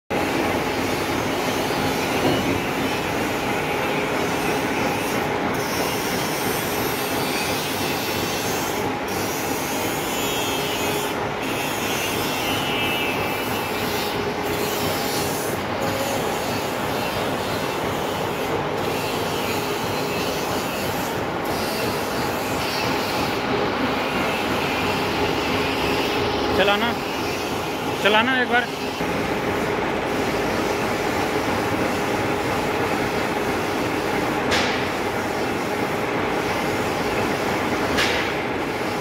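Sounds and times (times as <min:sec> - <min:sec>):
hydraulic pump motor drone: 0:00.1 - 0:39.0.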